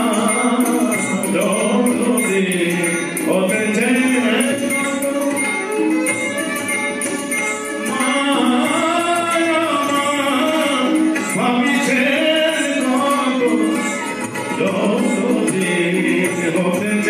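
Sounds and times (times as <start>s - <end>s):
man singing: 0.0s - 5.7s, 7.8s - 17.0s
musical accompaniment: 0.0s - 17.0s.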